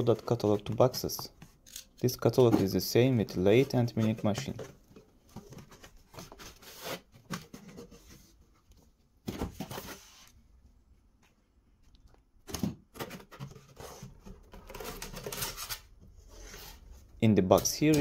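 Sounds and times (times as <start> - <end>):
paper and cardboard rustling: 0.0 - 10.3, 12.6 - 18.0.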